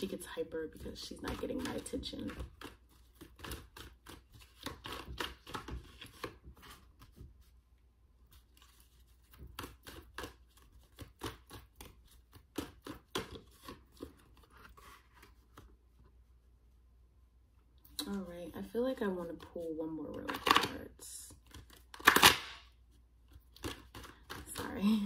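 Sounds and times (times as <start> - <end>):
cards being shuffled: 0.0 - 7.6, 8.3 - 16.1, 20.2 - 25.0.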